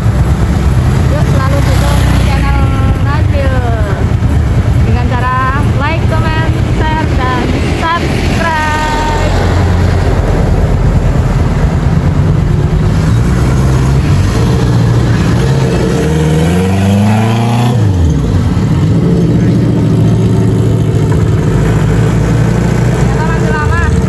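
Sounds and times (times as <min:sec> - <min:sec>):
traffic driving past: 0:00.0 - 0:24.0
vehicle revving and passing close: 0:00.0 - 0:24.0.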